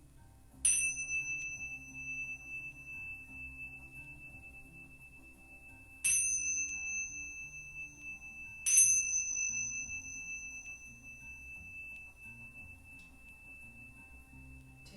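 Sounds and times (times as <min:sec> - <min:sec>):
small high-pitched bell ringing: 0:00.6 - 0:14.9.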